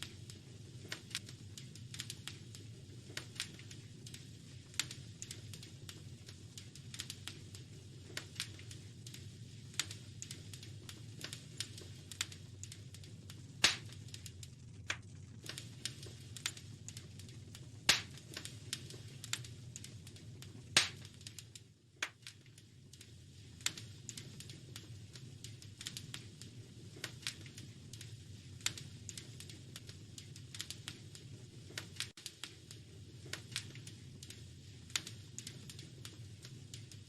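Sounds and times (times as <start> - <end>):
loud fire pops: 0.0 - 37.0
steady low rumble: 0.0 - 37.0
wood fire crackling: 0.0 - 37.0.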